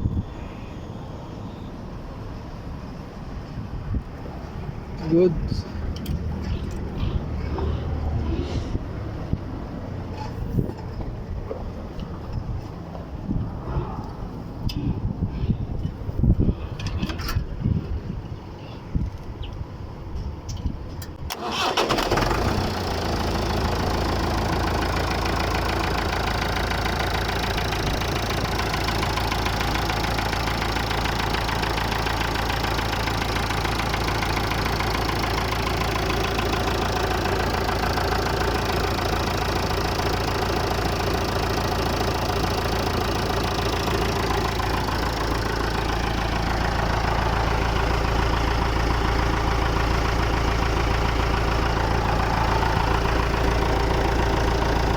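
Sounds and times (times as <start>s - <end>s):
tractor diesel engine idling: 2.6s - 54.9s.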